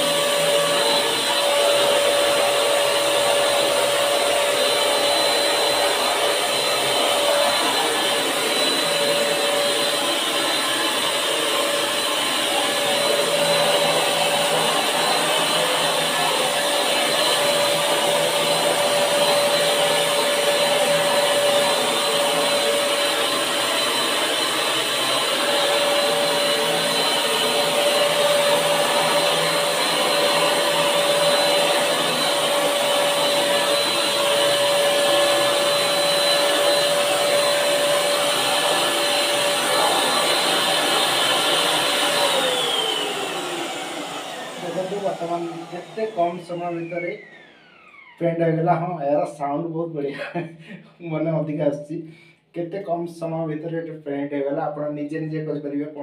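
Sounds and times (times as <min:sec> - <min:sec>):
paint sprayer blower whining: 0:00.0 - 0:49.6.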